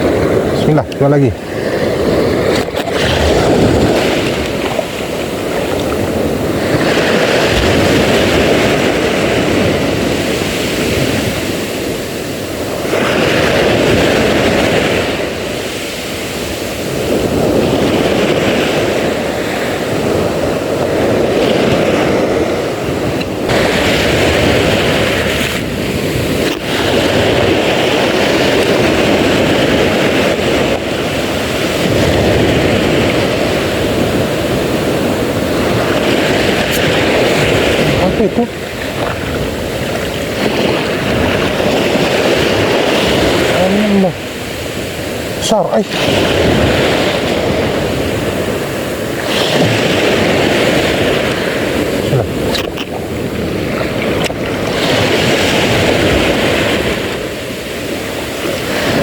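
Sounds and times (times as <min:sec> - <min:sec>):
sea waves: 0:00.0 - 0:59.0
wind on microphone: 0:00.0 - 0:59.0.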